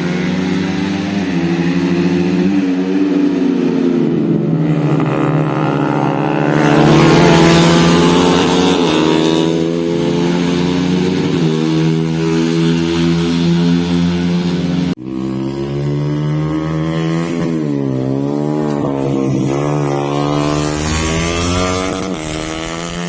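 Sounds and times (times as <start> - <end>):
motocross motorcycle engines: 0.0 - 23.0
motorcycle passing close by: 0.0 - 23.0.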